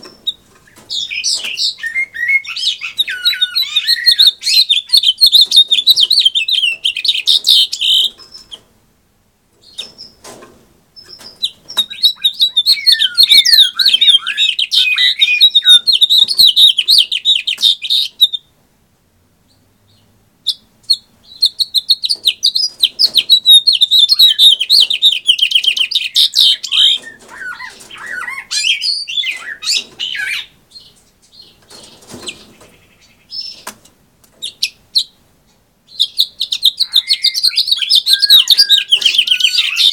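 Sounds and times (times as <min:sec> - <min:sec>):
finch singing: 0:00.0 - 0:08.6, 0:11.0 - 0:18.5, 0:19.5 - 0:33.8, 0:35.9 - 0:39.9.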